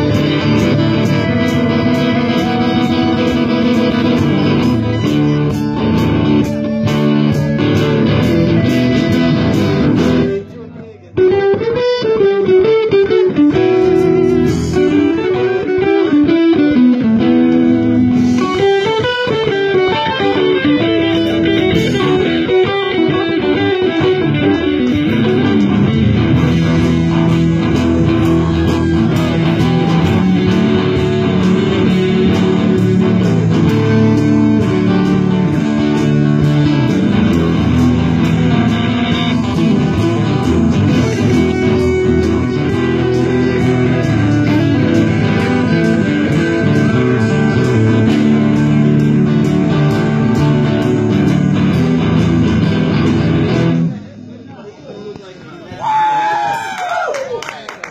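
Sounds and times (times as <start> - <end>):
bass line: 0.0 - 54.1
electric guitar lines: 0.0 - 57.9.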